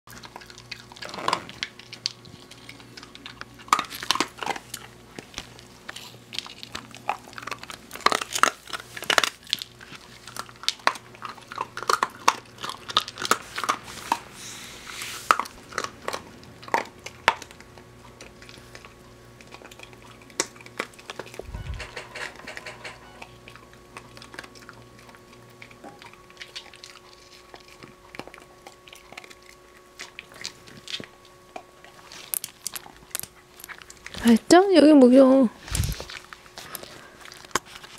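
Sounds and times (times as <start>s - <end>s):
dog crunching dry treats: 0.1s - 14.3s, 15.2s - 21.4s, 23.4s - 34.5s, 35.6s - 37.9s.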